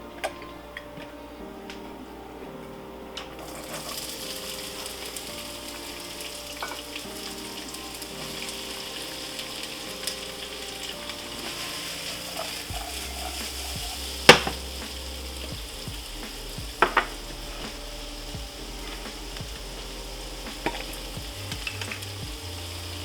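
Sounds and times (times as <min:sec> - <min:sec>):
food sizzling in a frying pan: 0:03.4 - 0:23.0.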